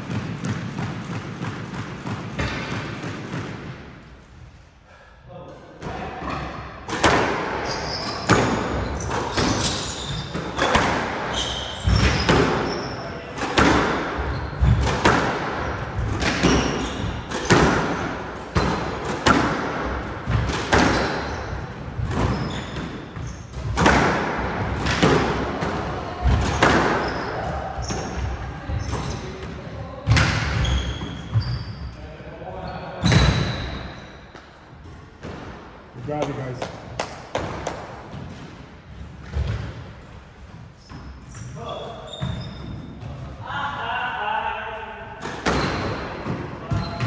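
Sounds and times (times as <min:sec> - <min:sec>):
squash ball hits echoing: 0:00.0 - 0:04.1, 0:05.8 - 0:31.8, 0:33.0 - 0:40.1, 0:45.1 - 0:47.0.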